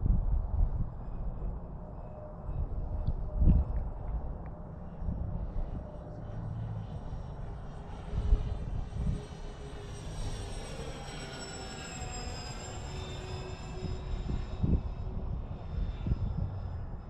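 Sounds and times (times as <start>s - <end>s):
wind rumble on microphone: 0.0s - 11.1s, 12.1s - 17.0s
electric motors whining in flight: 0.2s - 17.0s.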